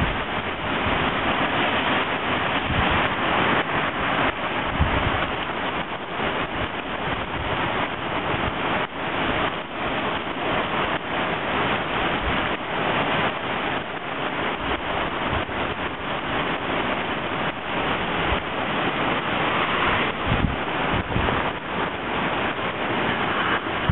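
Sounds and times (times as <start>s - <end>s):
heavy rain pouring: 0.0s - 23.9s
wind buffeting microphone: 0.0s - 23.9s.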